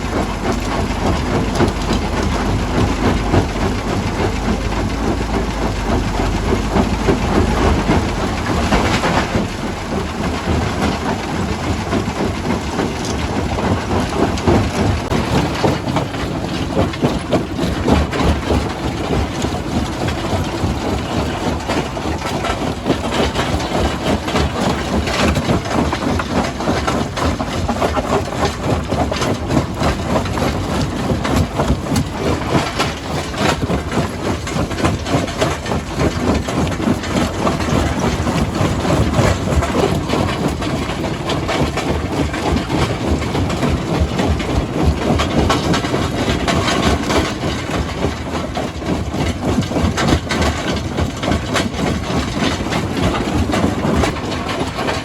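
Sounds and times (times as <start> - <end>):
stone-crushing machinery running: 0.0 - 55.0.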